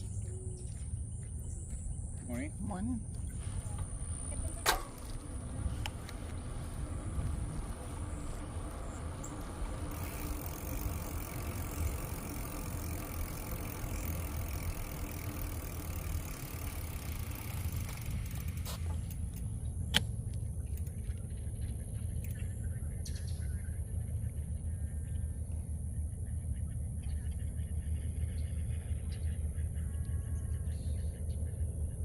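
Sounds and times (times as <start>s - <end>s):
bicycle riding rumble: 0.0s - 32.0s.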